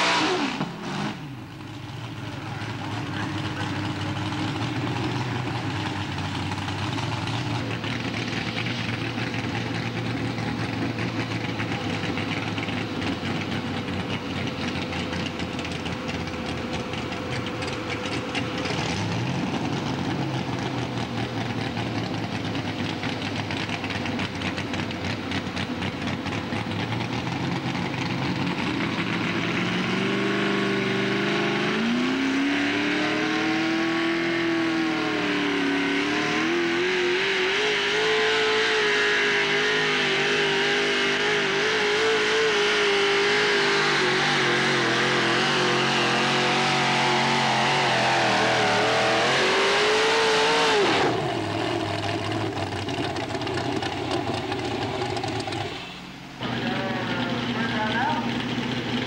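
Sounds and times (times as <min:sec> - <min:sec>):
tractor engine idling and revving: 0:00.0 - 0:59.0.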